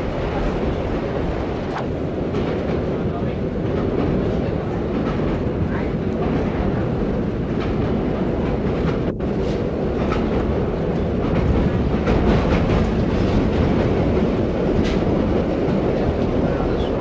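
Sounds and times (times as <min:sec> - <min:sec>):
subway car rumbling on tracks: 0:00.0 - 0:17.0
wheels clicking over rail joints: 0:02.1 - 0:17.0.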